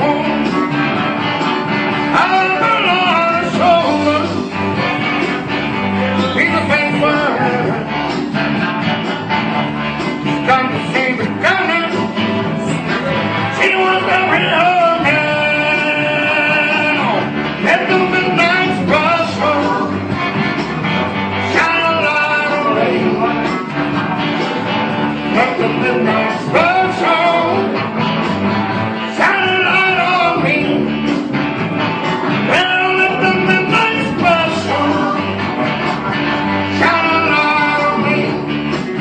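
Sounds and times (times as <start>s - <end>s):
bending melodic lead line: 0.0s - 39.0s
live rock and blues music: 0.0s - 39.0s.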